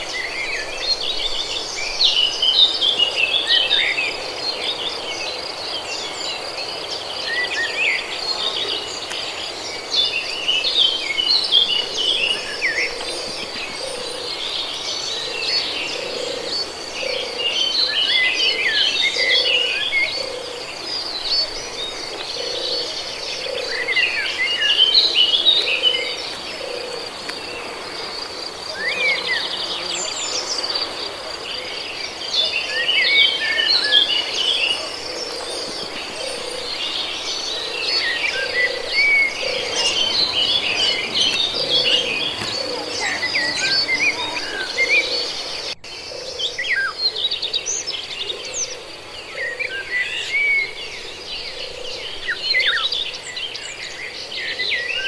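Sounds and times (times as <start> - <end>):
soft low bird calls: 0.0 - 53.2
small birds chirping: 0.0 - 55.0.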